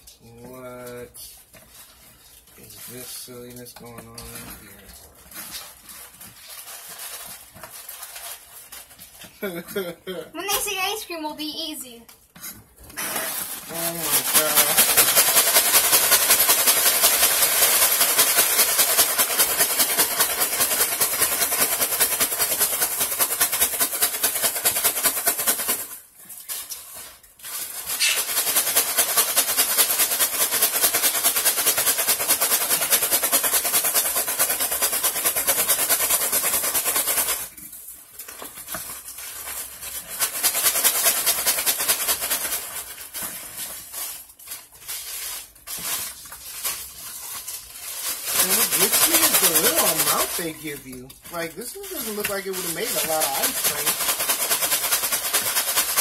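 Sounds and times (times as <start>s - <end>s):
ice shaken in a container: 0.1s - 9.8s, 13.0s - 56.0s.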